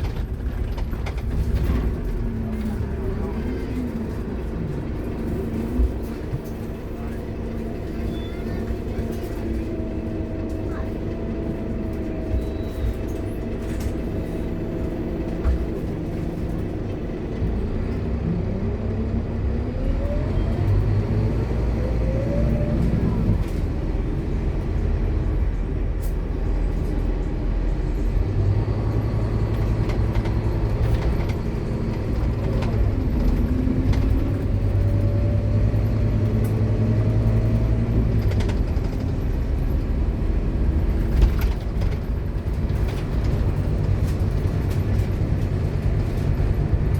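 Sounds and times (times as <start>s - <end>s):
bus diesel engine: 0.0s - 46.9s.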